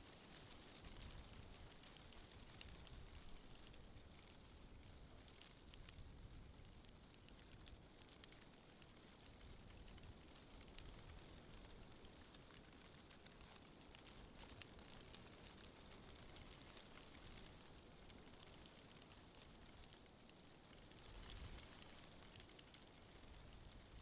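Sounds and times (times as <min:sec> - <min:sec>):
fine crackle of tiny ticks: 0:00.0 - 0:24.0.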